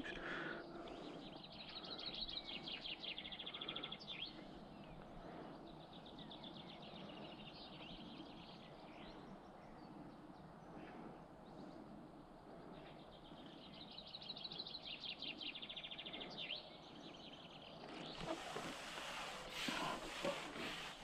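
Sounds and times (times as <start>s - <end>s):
faint outdoor background: 0.0s - 21.0s.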